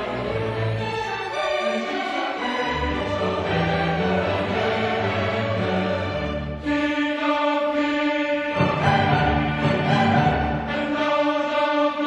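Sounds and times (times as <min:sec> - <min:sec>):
choir and string orchestra: 0:00.0 - 0:12.0.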